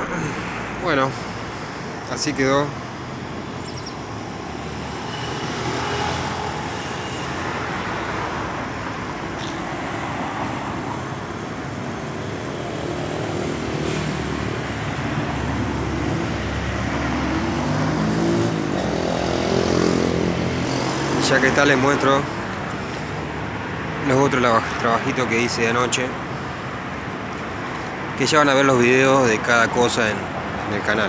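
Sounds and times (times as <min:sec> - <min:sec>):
vehicle engine: 0:00.0 - 0:28.2
road traffic passing: 0:00.0 - 0:31.0.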